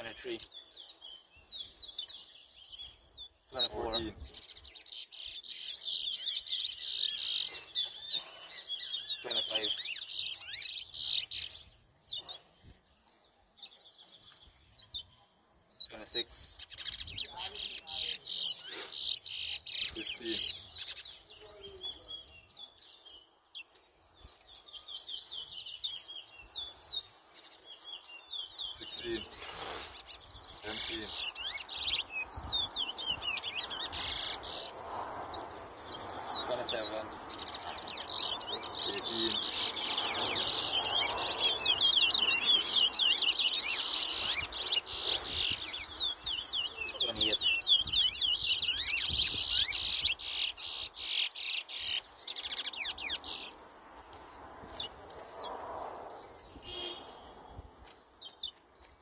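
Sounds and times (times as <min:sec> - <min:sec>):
finches singing: 0:00.0 - 0:53.6.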